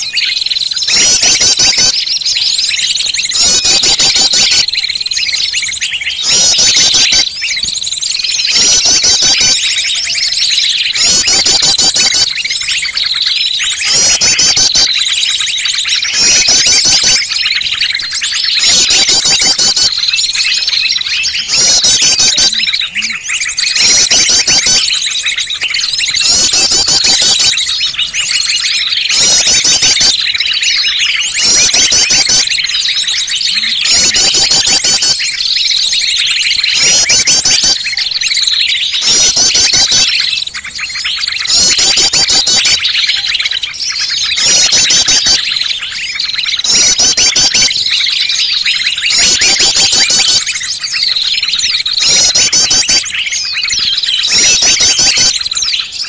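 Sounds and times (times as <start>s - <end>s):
small birds chirping chorus: 0.0s - 56.0s.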